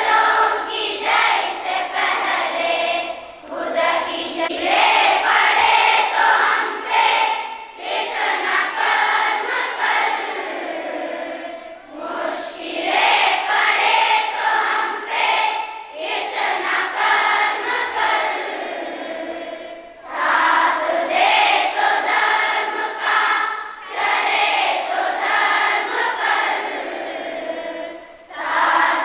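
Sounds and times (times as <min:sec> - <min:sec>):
children singing a prayer: 0:00.0 - 0:29.0.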